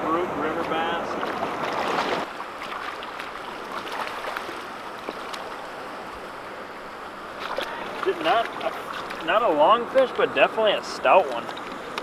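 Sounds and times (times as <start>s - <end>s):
river current rushing: 0.0s - 12.0s.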